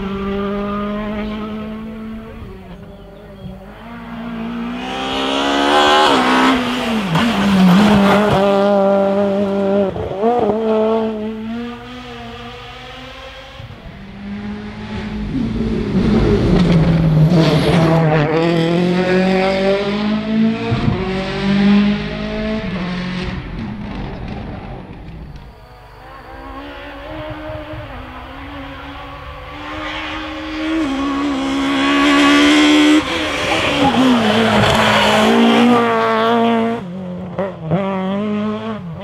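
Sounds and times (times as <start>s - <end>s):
rally cars passing at full throttle: 0.0s - 39.0s.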